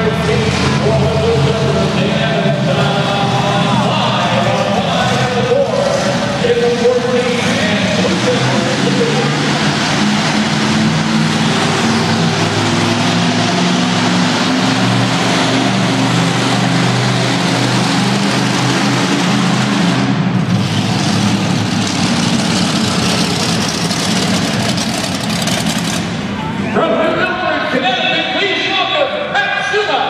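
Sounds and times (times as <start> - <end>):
monster truck engines revving: 0.0 - 30.0.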